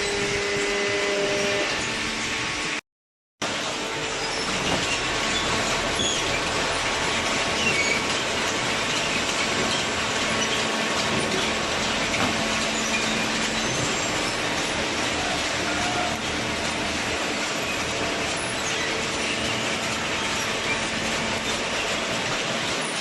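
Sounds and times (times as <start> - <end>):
cardboard baler running: 3.4 - 23.0.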